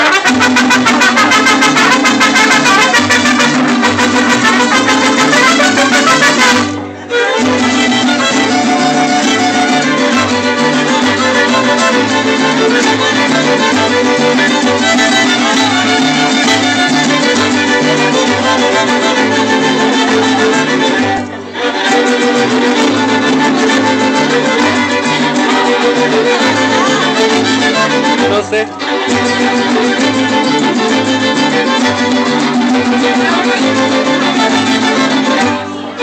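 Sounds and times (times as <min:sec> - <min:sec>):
mariachi band playing: 0:00.0 - 0:36.0
violins: 0:00.0 - 0:36.0
bass line: 0:00.3 - 0:35.6.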